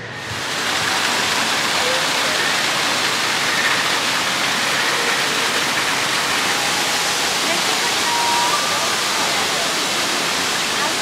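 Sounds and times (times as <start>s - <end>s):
waterfalls splashing into pool: 0.2s - 11.0s.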